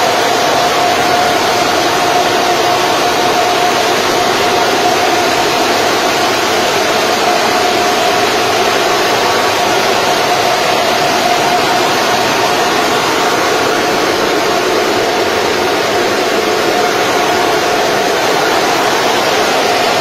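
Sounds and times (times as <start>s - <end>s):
cooling fans rushing and whining: 0.0s - 20.0s.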